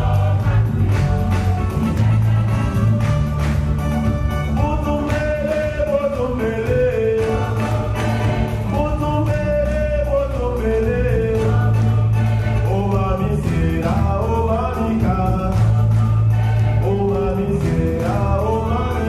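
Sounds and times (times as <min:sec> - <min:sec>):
mixed choir singing: 0:00.0 - 0:03.7, 0:04.7 - 0:19.0
hand drums beating: 0:00.0 - 0:19.0
low bass line: 0:00.0 - 0:19.0.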